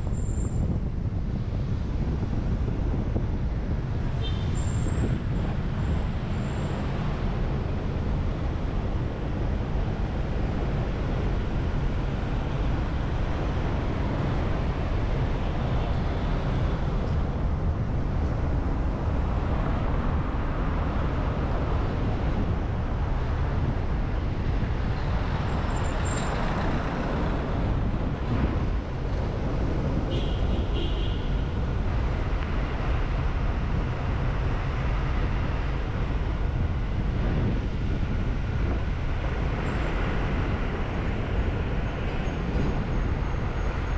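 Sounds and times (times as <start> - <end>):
road and traffic noise: 0.0 - 43.9.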